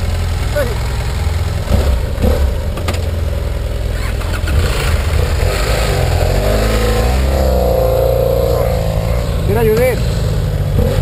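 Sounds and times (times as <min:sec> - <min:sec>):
motorcycle engine idling: 0:00.0 - 0:05.8, 0:07.2 - 0:11.0.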